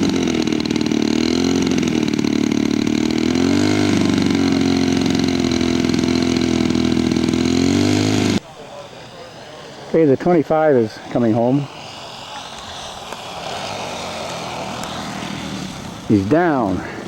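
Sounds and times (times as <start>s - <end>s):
model aircraft engine: 0.0s - 17.0s.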